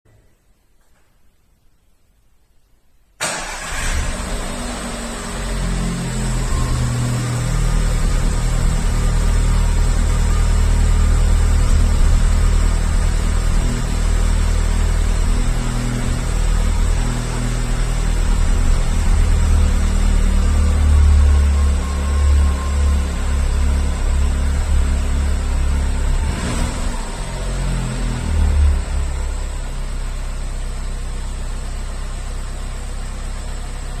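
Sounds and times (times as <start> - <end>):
car engine idling: 3.2 - 34.0.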